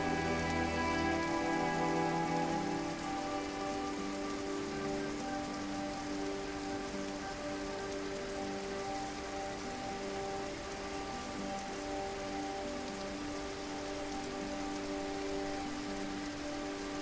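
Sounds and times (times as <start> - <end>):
soft music of long held notes: 0.0 - 17.0
waterfall rushing: 0.0 - 17.0.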